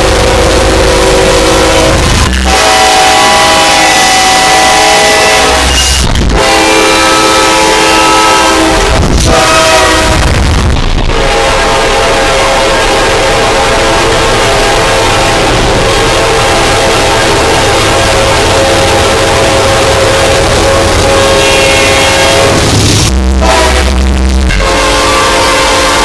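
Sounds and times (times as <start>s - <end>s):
distorted train air horns: 0.0s - 26.0s.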